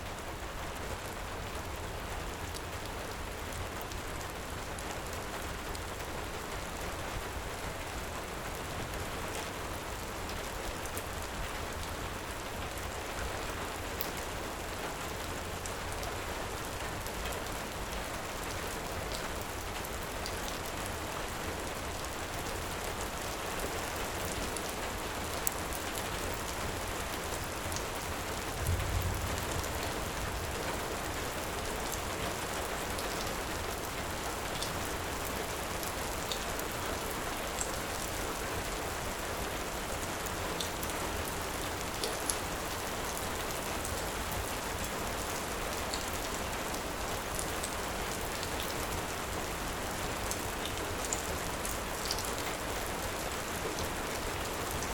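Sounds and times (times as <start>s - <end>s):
heavy rain: 0.0s - 54.9s.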